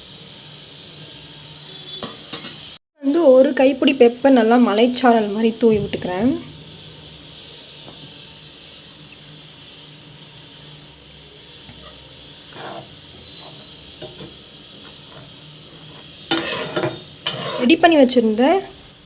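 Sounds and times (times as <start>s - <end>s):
sauce simmering with hiss: 0.0s - 2.1s, 2.7s - 19.0s.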